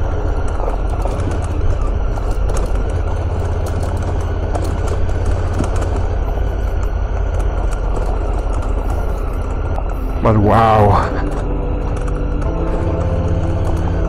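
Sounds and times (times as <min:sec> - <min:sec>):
gravel clicking under tyres: 0:00.0 - 0:14.0
motorcycle engine running: 0:00.0 - 0:14.0.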